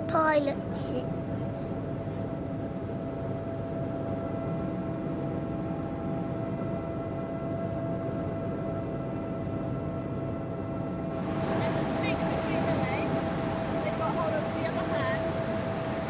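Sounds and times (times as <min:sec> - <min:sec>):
constant whine: 0:00.0 - 0:16.0
helicopter engine and rotors: 0:00.0 - 0:16.0.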